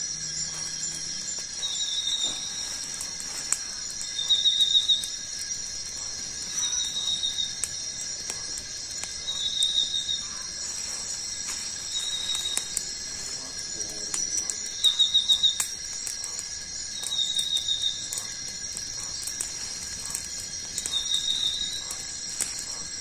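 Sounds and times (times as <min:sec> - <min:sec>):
insect buzzing call: 0:00.0 - 0:23.0
insect high-pitched drone: 0:00.0 - 0:23.0.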